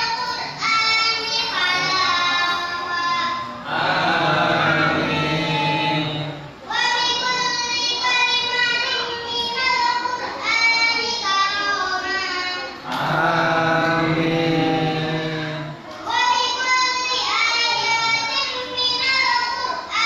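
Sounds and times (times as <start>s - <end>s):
boy chanting melodically: 0.0s - 20.0s.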